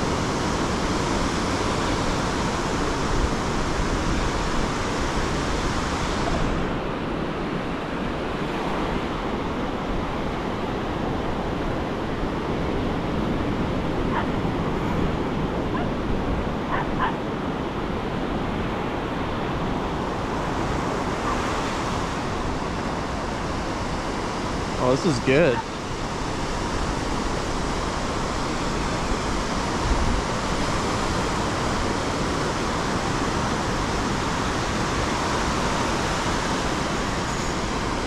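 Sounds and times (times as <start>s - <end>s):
ocean surf on sandy beach: 0.0s - 38.0s.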